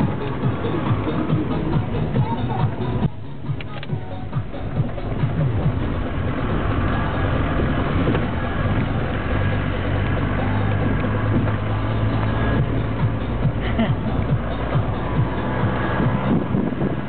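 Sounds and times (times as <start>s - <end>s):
engine and road rumble: 0.0s - 17.0s
steady low drone: 0.0s - 17.0s.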